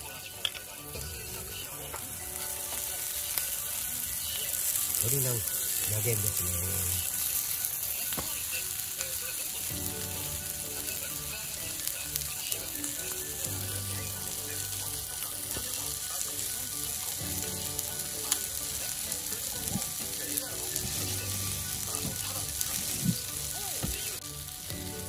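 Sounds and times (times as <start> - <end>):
chicken frying in oil: 0.0 - 25.0.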